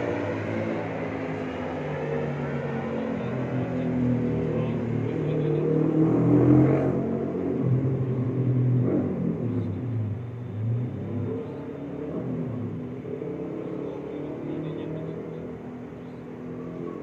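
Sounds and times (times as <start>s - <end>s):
vehicle engines revving: 0.0s - 17.0s.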